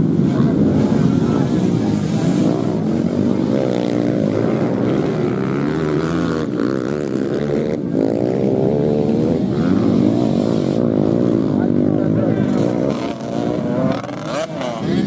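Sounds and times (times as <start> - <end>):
dirt-bike engines revving: 0.0 - 15.0.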